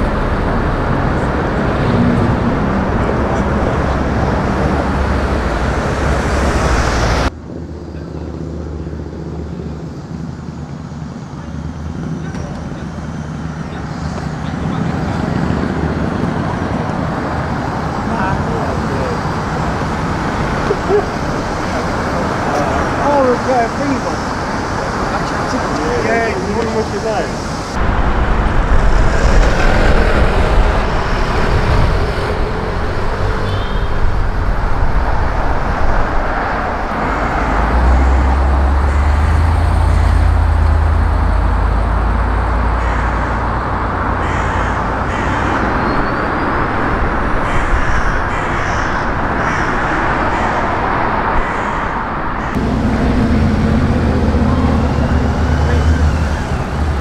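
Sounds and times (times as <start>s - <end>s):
car engine rumble passing close: 0.0s - 57.0s
cars driving past: 0.0s - 57.0s.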